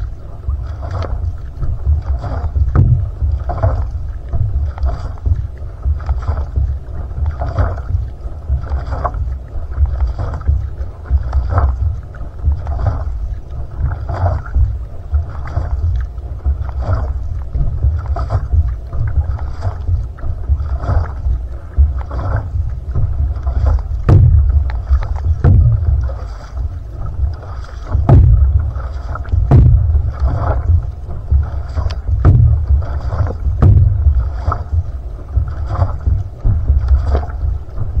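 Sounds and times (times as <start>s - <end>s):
paddle slap on water: 0.0s - 38.0s
paddle splashing through water: 0.0s - 38.0s
water rumbling along hull: 0.0s - 38.0s.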